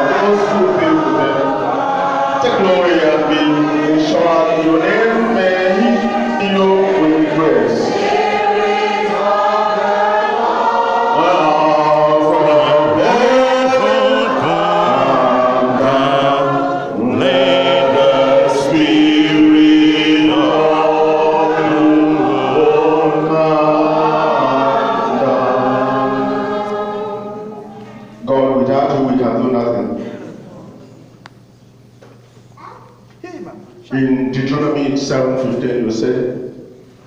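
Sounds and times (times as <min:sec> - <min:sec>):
group singing a hymn: 0:00.0 - 0:30.8.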